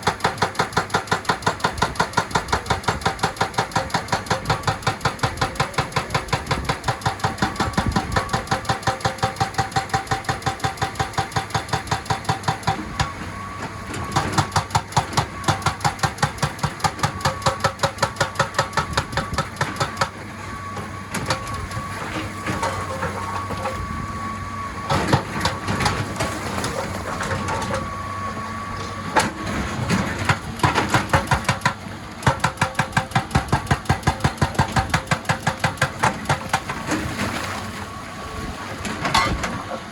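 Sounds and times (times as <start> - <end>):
hydraulic breaker hammering rock: 0.0 - 24.0, 24.9 - 28.0, 28.8 - 37.5, 38.8 - 39.7
diesel engine running: 0.0 - 39.9.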